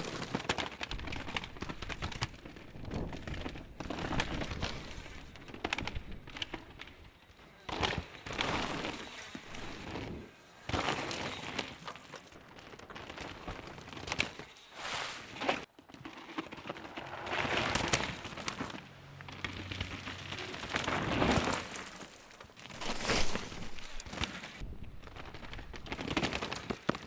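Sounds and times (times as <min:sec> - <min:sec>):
bike tyres crunching on dirt: 0:00.0 - 0:27.0.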